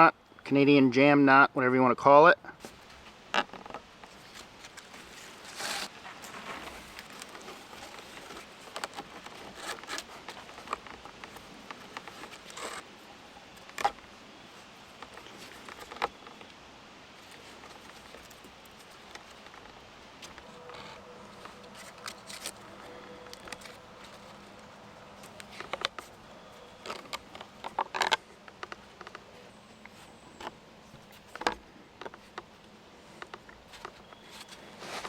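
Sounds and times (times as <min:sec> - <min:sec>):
hands rustling cord and sticks: 0:02.6 - 0:35.0.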